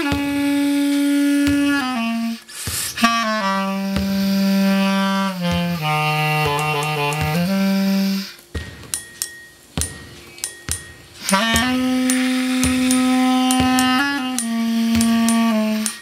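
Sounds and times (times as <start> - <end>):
clarinet solo: 0.0 - 8.5, 11.2 - 16.0.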